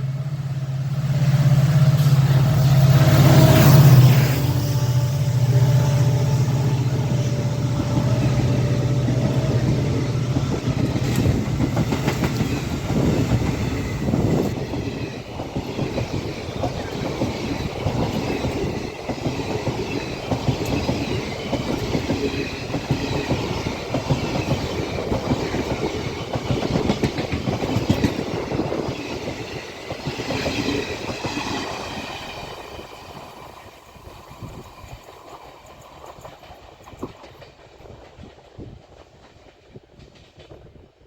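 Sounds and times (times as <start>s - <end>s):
train wheels clattering on rails: 0.8s - 40.9s.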